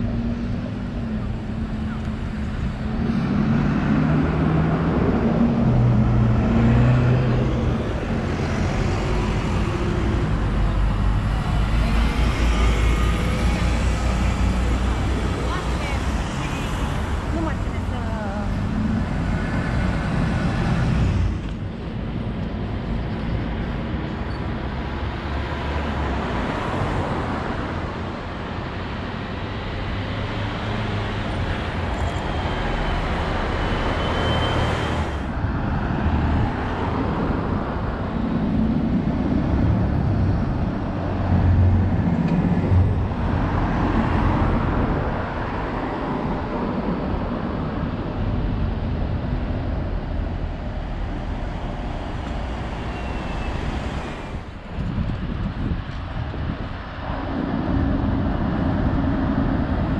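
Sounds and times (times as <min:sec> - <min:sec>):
buses passing: 0:00.0 - 0:59.9
traffic hum: 0:00.0 - 0:59.9.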